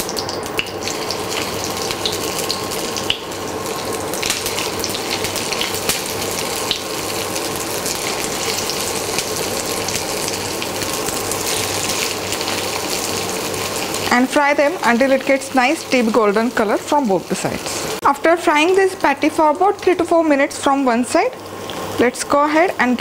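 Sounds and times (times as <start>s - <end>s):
oil sizzling in a pan: 0.0s - 23.0s.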